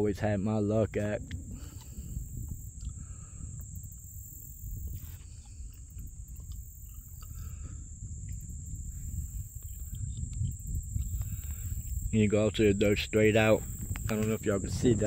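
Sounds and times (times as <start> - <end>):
insects droning: 0.0 - 15.0
wind buffeting microphone: 0.0 - 15.0.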